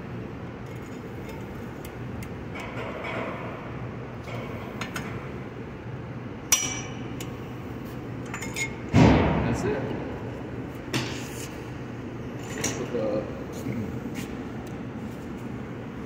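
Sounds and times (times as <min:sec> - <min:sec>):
low shop hum: 0:00.0 - 0:16.0.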